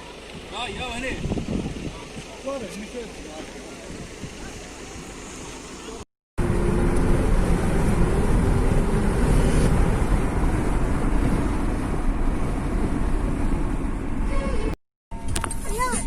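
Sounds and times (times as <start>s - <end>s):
engine running: 0.0s - 14.3s
wind buffeting microphone: 0.3s - 5.4s, 6.9s - 14.8s.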